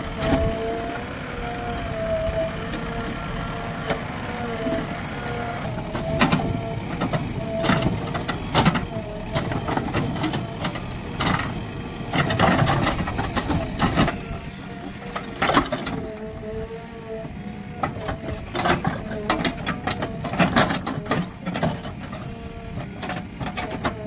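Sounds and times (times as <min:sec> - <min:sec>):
backhoe engine rumble: 0:00.0 - 0:24.0
steady whining tone: 0:00.0 - 0:24.0.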